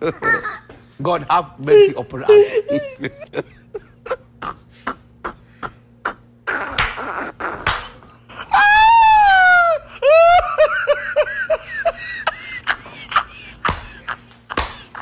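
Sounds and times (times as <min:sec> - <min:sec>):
person laughing hysterically: 0:02.2 - 0:15.0.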